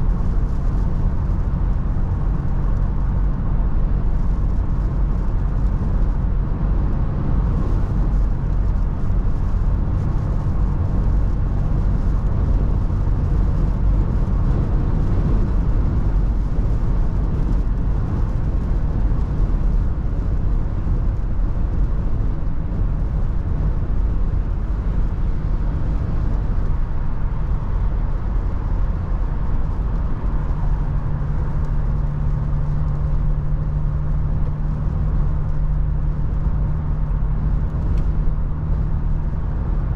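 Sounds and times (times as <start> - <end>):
car driving at speed: 0.0 - 39.9
road and wind noise: 0.0 - 39.9.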